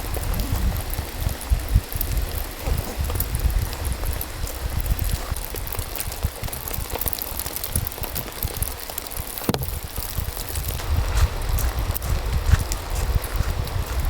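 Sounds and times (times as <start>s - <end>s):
rain drops ticking: 0.0s - 14.0s
wind rumble on microphone: 0.0s - 14.0s.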